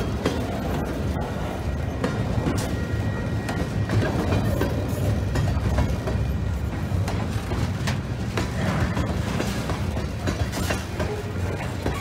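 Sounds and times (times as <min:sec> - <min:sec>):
train cars clicking and clanking: 0:00.0 - 0:12.0
train wheels rumbling on rail: 0:00.0 - 0:12.0.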